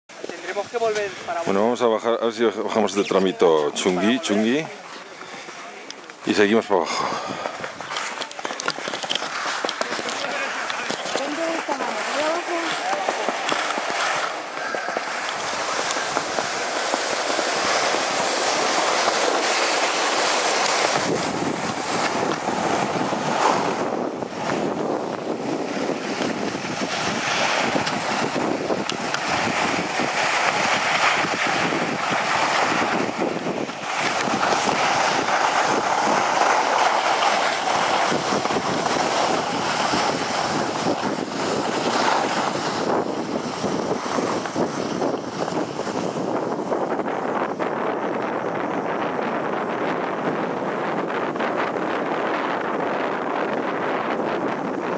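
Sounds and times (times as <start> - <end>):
skis scraping over snow: 0.1 - 54.9
wind buffeting microphone: 0.1 - 54.9.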